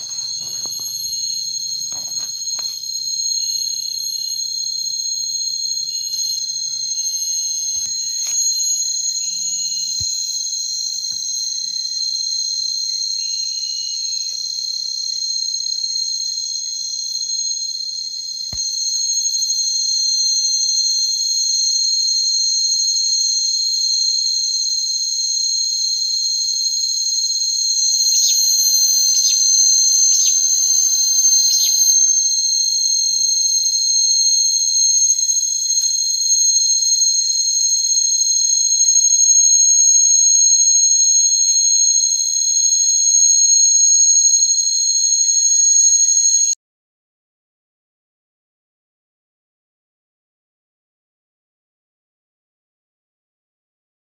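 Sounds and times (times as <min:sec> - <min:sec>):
crickets chirping: 0:00.0 - 0:46.6.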